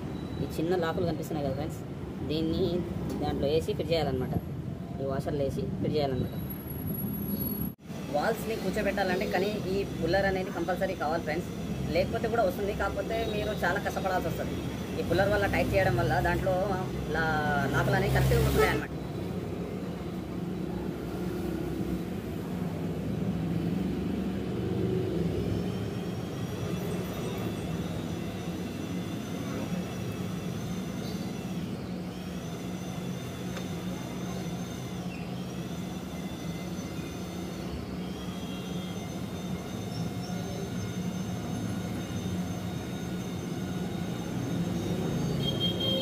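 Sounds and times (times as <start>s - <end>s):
motor humming: 7.9s - 46.0s.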